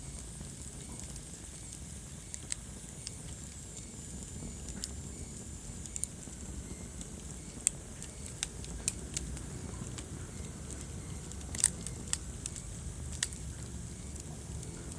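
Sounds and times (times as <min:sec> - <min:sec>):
fire crackling and popping: 0:00.0 - 0:14.9
fire flames rumbling: 0:00.0 - 0:14.9.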